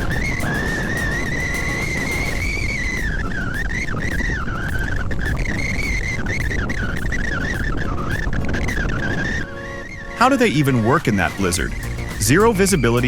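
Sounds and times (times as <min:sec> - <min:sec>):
high wavering whine: 0:00.0 - 0:13.0.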